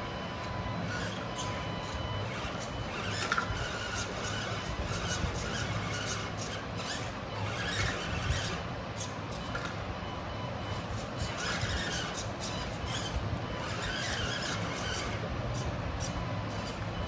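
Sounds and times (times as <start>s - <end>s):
electric motor and gear drive whining: 0.0s - 17.0s.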